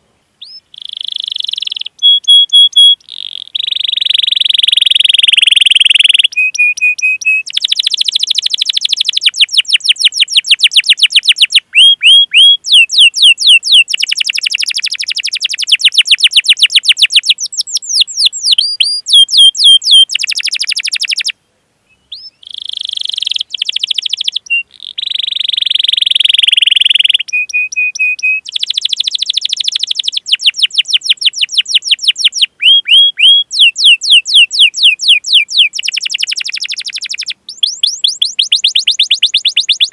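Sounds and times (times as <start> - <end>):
canary singing: 0.4 - 39.9.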